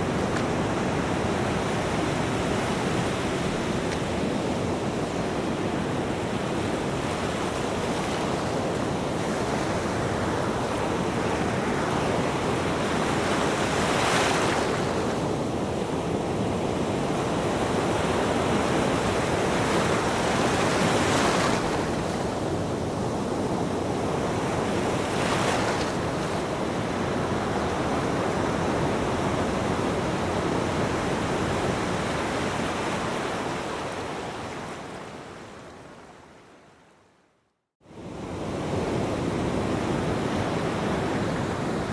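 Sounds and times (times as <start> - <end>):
ocean waves breaking: 0.0 - 35.3.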